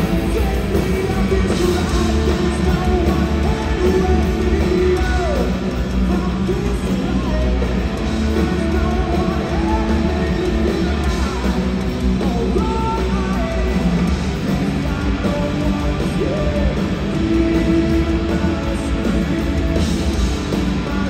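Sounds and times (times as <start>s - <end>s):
punk rock band playing live: 0.0s - 21.0s.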